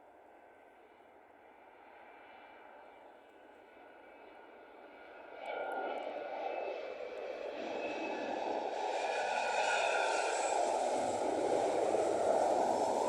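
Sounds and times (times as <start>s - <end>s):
airliner engines with whine: 0.0s - 13.0s.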